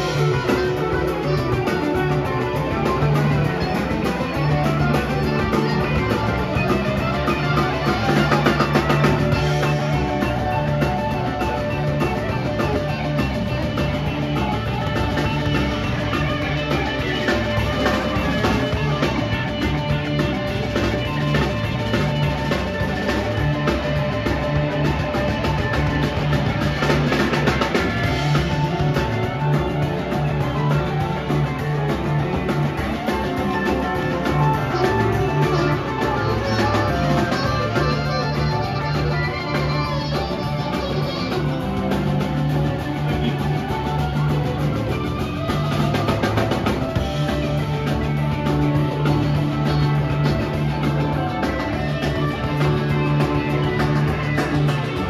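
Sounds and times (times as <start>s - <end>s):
bass guitar: 0.0s - 55.0s
drum kit: 0.0s - 55.0s
electric guitars: 0.0s - 55.0s
harmonica: 0.0s - 55.0s.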